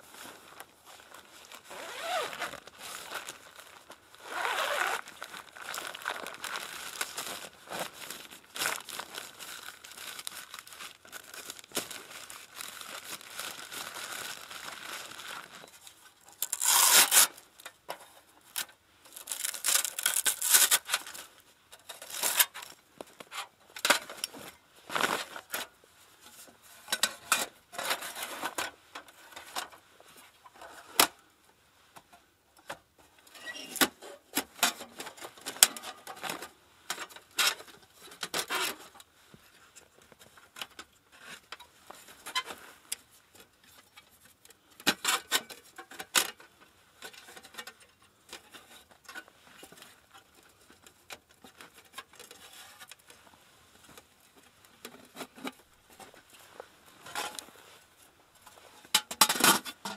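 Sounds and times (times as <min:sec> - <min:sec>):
rustling of camping gear: 0:00.0 - 0:59.9.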